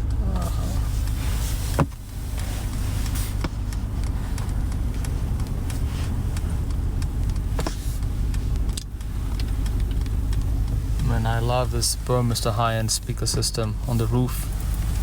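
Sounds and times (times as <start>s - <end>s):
faint clicks: 0.0s - 15.0s
road and engine rumble in car: 0.0s - 15.0s.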